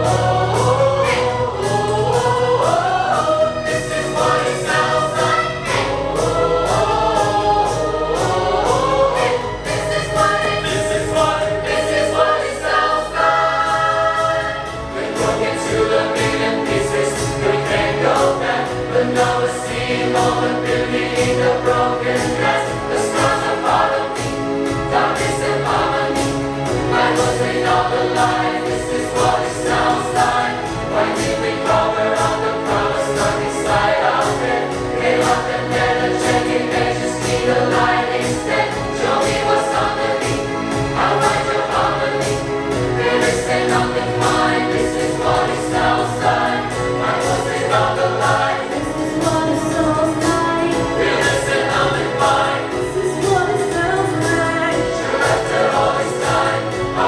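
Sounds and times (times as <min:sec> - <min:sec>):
choir singing a pop song: 0:00.0 - 0:57.0.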